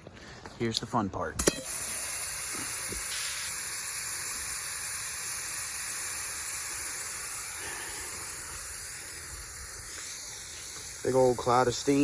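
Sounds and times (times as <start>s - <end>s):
steam hissing: 1.4s - 12.0s
light sizzle: 1.5s - 12.0s.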